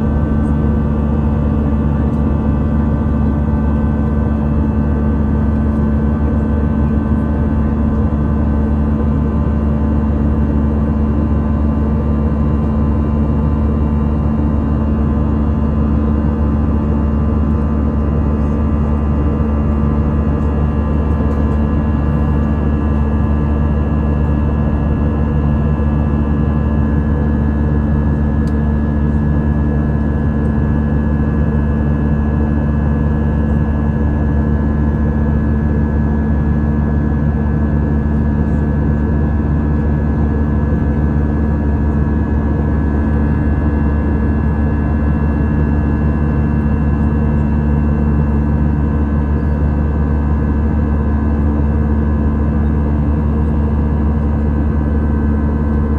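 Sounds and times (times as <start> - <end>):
jet engines droning in cabin: 0.0 - 55.9.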